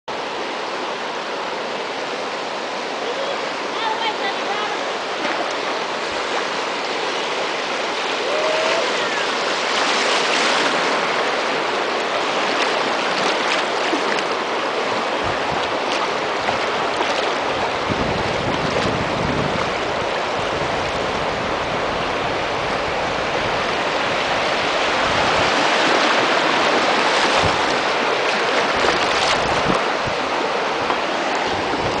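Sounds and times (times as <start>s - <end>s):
river rushing over riffles: 0.1s - 32.0s.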